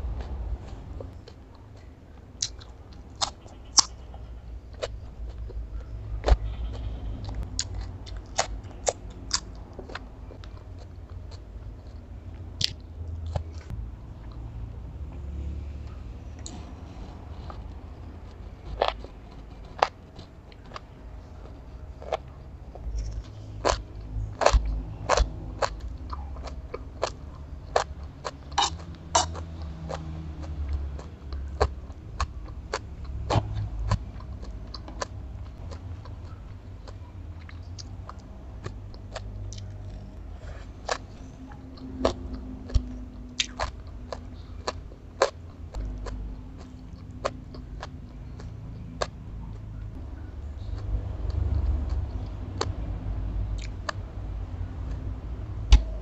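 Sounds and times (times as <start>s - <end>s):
chewing and crunching: 0.0s - 56.0s
sharp eating clicks and taps: 0.1s - 4.0s, 4.7s - 14.4s, 15.8s - 56.0s.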